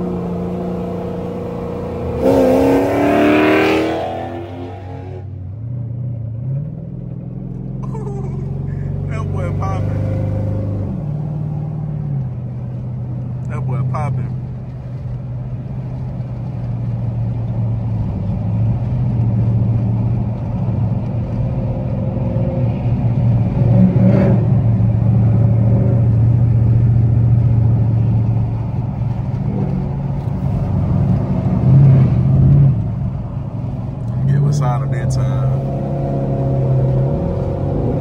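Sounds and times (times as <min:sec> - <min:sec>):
car exhaust drone: 0:00.0 - 0:38.0.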